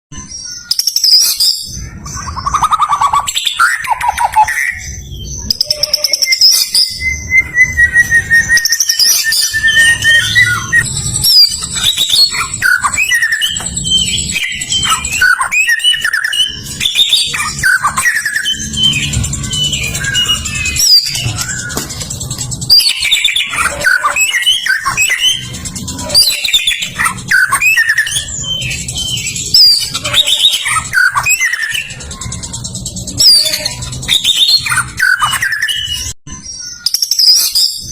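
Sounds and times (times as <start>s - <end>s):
bird singing whistles and trills: 0.2s - 37.9s.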